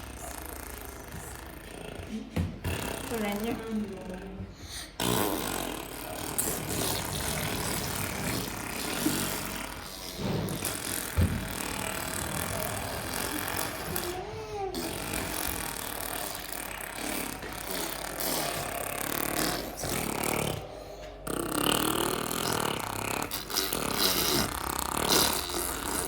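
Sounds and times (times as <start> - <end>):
children making mouth noises: 0.0 - 26.0.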